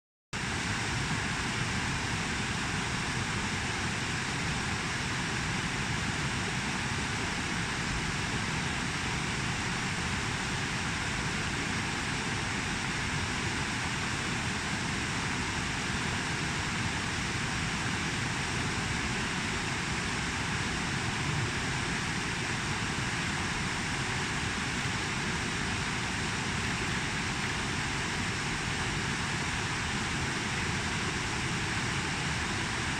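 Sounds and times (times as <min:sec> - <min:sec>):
fast-flowing creek rushing: 0:00.7 - 0:32.9.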